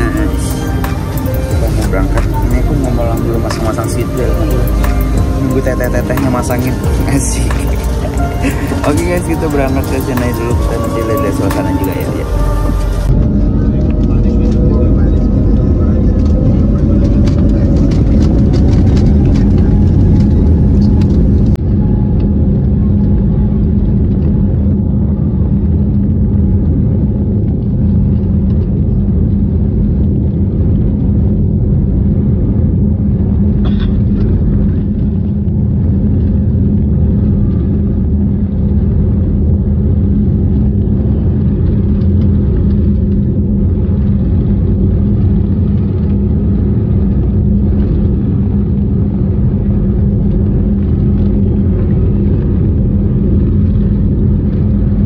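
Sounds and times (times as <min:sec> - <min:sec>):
jet engine whine: 0:00.0 - 0:55.0
jet engines rumbling in cabin: 0:00.0 - 0:55.0.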